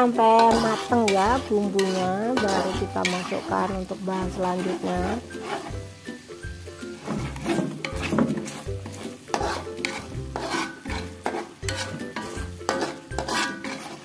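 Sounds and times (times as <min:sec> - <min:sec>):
metal spatula scraping wok: 0:00.0 - 0:14.0
paste sizzling in oil: 0:00.0 - 0:14.0.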